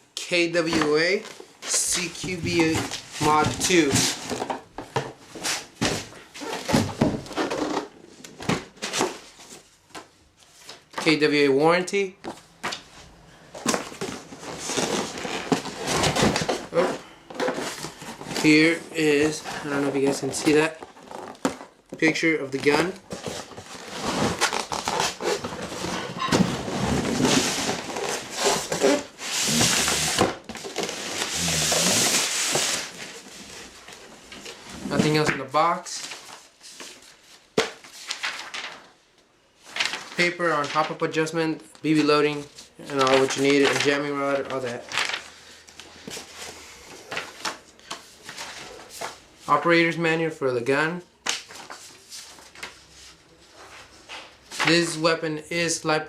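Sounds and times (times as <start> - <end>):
cardboard and paper rustling: 0.6 - 11.1, 12.2 - 41.0, 41.9 - 49.3.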